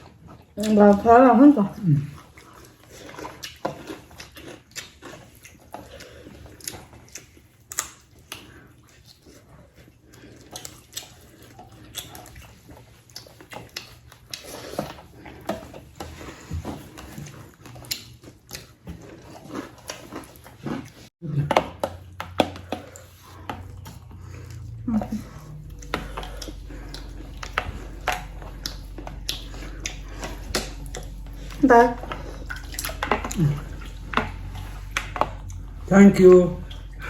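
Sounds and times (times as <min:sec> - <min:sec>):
chewing and lip smacking: 0:02.0 - 0:37.0.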